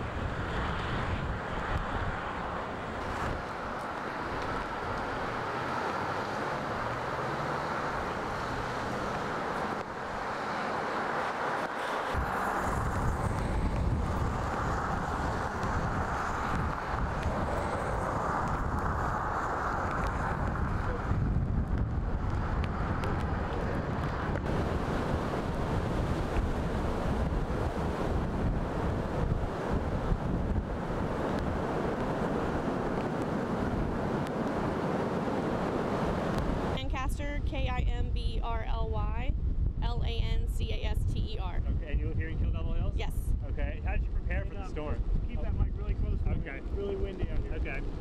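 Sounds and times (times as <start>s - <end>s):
gusty storm wind buffeting microphone: 0.0s - 10.5s, 11.1s - 48.0s.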